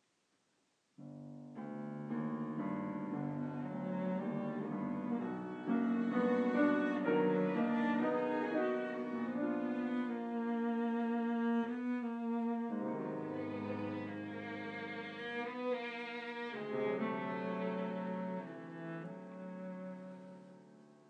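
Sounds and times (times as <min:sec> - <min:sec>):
grand piano: 0:01.0 - 0:21.0
cello: 0:01.5 - 0:21.0
violin: 0:02.1 - 0:21.0.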